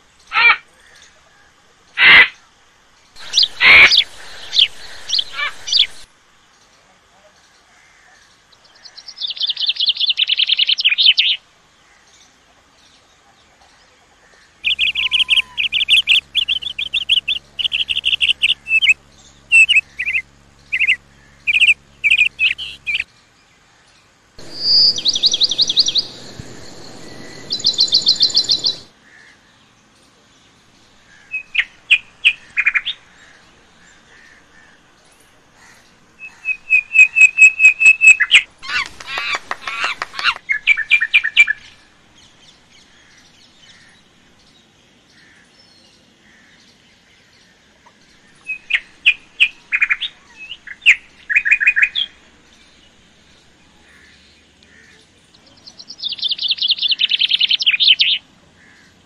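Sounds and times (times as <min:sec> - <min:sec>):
small birds chirping: 0:01.9 - 0:59.0.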